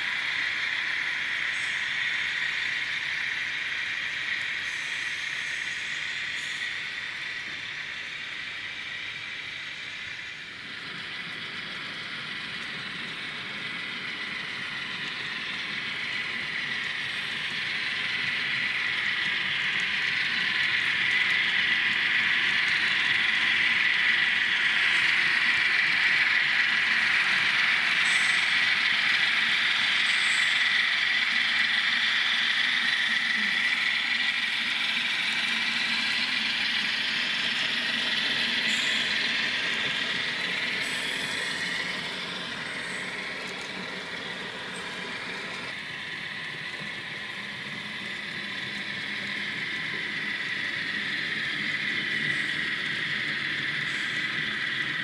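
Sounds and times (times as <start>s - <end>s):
model train whirring on track: 0.0s - 55.0s.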